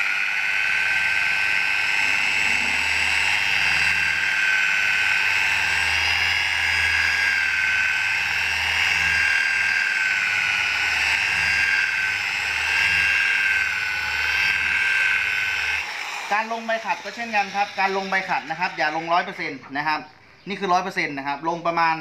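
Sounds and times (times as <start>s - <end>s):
electric car polisher whining: 0.0s - 20.1s.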